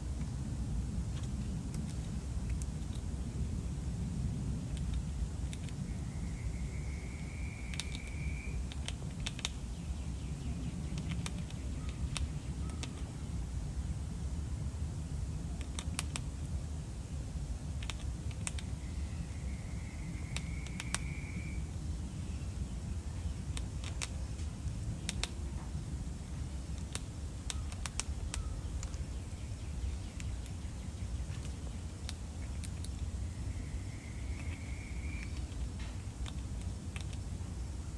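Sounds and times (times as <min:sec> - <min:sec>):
squirrel gnawing corn: 0:00.0 - 0:37.9
steady low rumble: 0:00.0 - 0:37.9.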